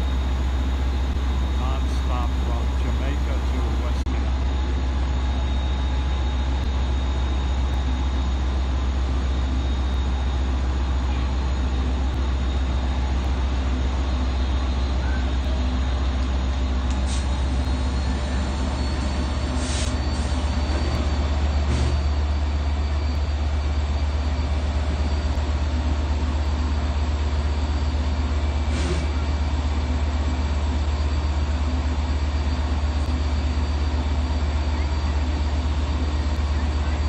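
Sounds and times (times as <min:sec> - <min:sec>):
diesel locomotives idling: 0:00.0 - 0:37.0.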